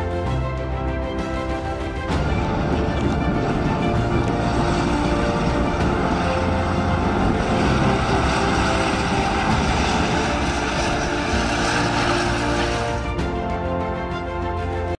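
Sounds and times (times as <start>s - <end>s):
tracked vehicle engine and tracks: 0.0s - 14.9s.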